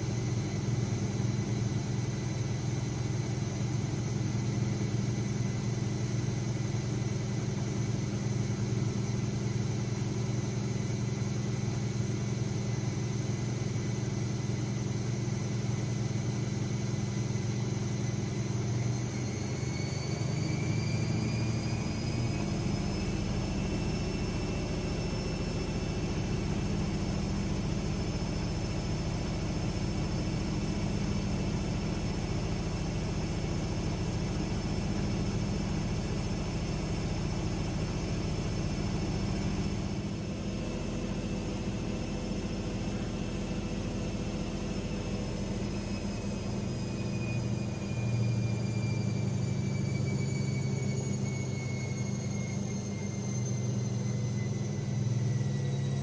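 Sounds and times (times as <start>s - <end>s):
washing machine hum and whine: 0.0s - 56.0s.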